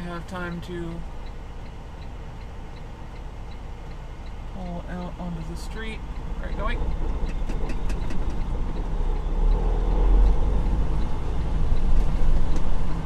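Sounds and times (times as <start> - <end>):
diesel truck engine accelerating: 0.0 - 13.0.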